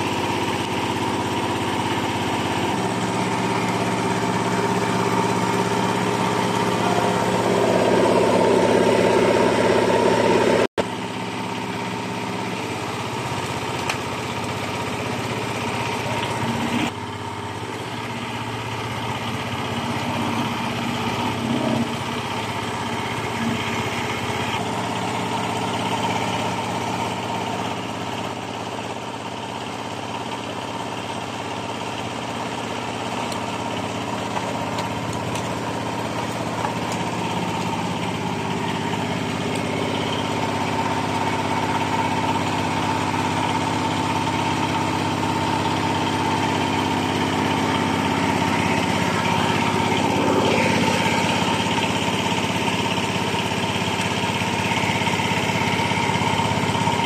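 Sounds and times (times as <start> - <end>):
small diesel engine idling: 0.0 - 57.0.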